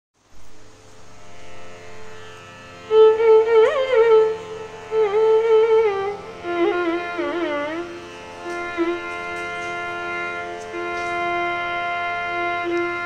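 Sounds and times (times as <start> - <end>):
steady drone: 0.3 - 13.0.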